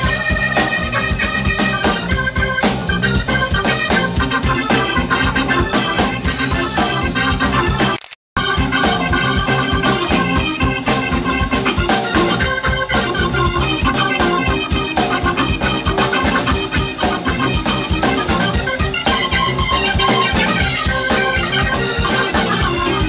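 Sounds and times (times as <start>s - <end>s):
organ keyboard: 0.0s - 23.0s
rock band playing live: 0.0s - 23.0s
steady drums: 0.0s - 23.0s.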